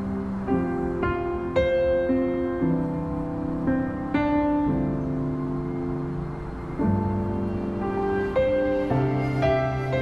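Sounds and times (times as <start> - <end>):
soft slow piano music: 0.0 - 10.0.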